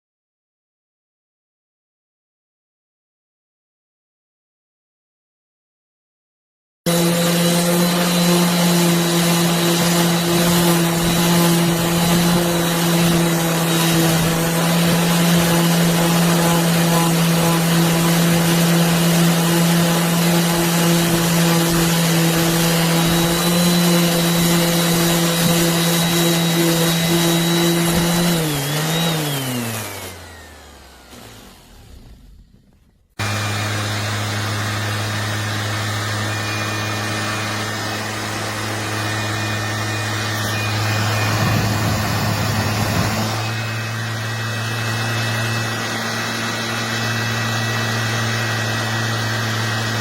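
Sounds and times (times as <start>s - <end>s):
orbital sander running: 6.9s - 50.0s.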